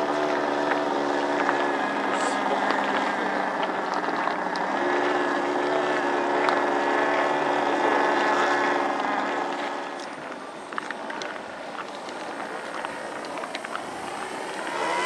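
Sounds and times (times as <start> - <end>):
model plane engines droning: 0.0 - 15.0.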